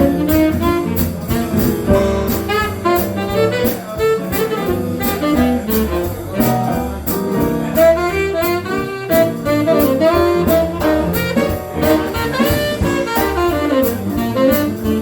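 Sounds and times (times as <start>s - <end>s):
cymbal keeping a beat: 0.0s - 15.0s
swing jazz band playing: 0.0s - 15.0s
tenor saxophone melody: 0.0s - 15.0s.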